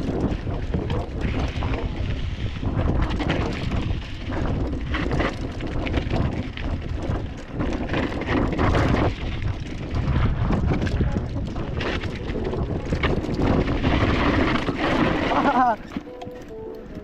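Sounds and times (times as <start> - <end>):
tyre noise on dirt trail: 0.0 - 17.0
wind buffeting microphone: 0.0 - 17.0.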